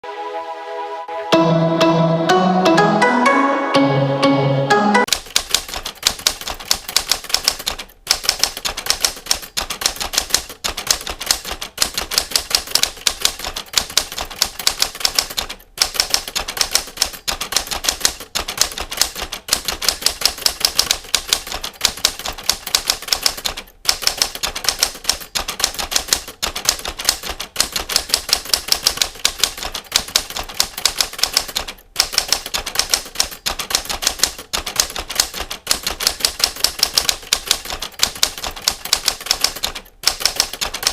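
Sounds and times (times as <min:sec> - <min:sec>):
typewriter keys clacking: 0:05.1 - 0:40.9.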